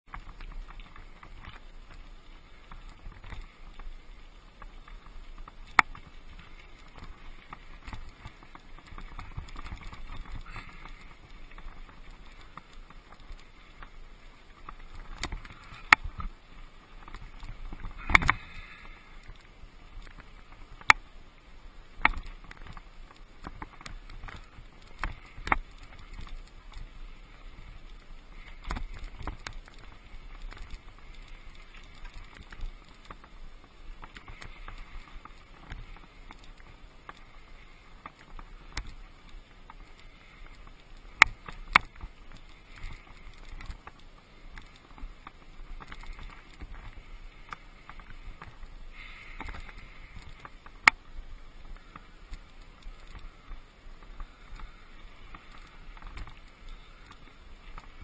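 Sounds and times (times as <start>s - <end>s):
bike tyres rumbling on gravel: 0.1s - 58.0s.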